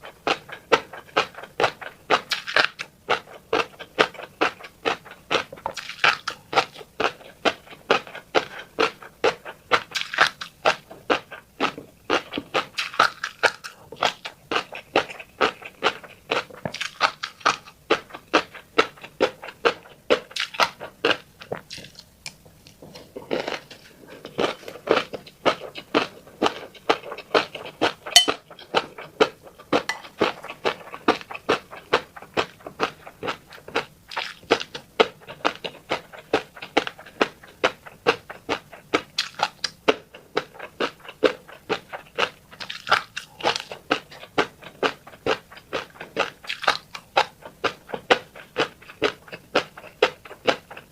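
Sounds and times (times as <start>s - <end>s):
fish roe being chewed: 0.0s - 50.9s.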